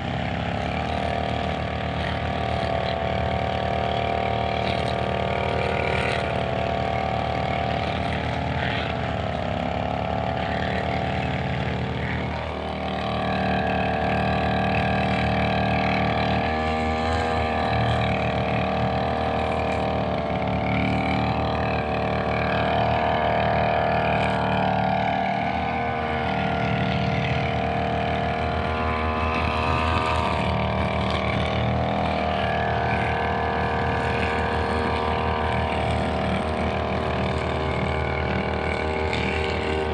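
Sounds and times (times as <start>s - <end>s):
brushcutter engine running: 0.0s - 39.9s.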